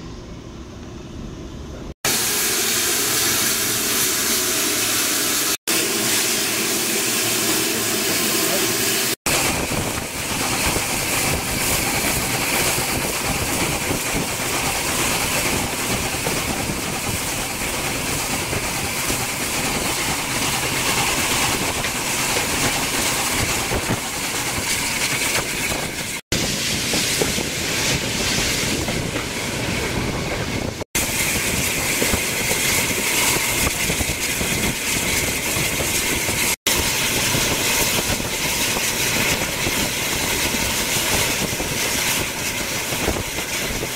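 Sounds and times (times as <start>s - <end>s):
train rumbling on track: 0.0s - 43.9s.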